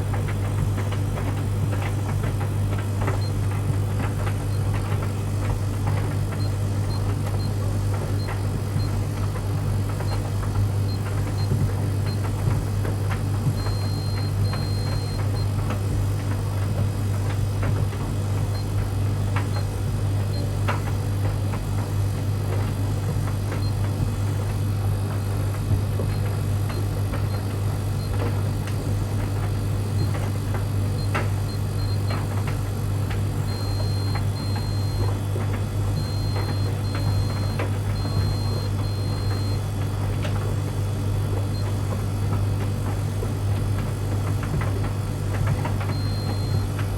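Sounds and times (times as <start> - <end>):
tumble dryer humming: 0.0 - 46.9.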